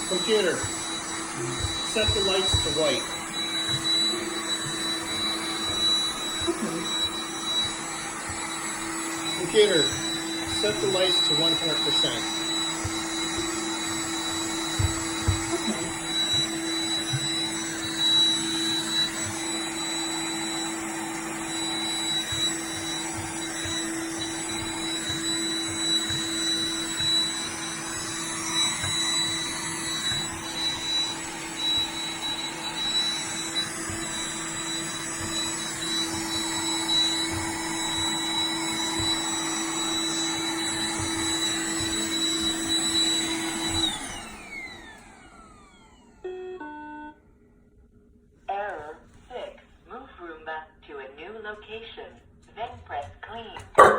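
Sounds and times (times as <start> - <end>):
high motor whine: 0.0 - 46.2
robot vacuum motor humming: 0.0 - 46.3, 53.6 - 53.9.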